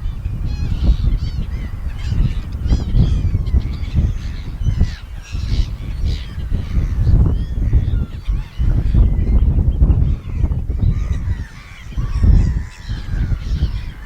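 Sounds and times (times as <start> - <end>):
seagulls calling: 0.0 - 14.0.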